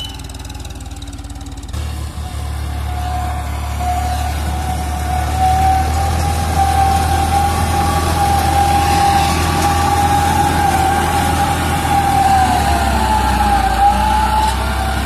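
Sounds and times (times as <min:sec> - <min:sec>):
mulcher high whine: 0:00.0 - 0:15.0
tractor engine drone: 0:00.0 - 0:15.0.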